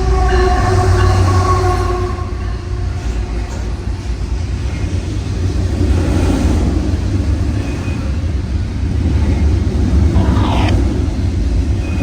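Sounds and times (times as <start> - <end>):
rail noise: 0.0 - 12.0.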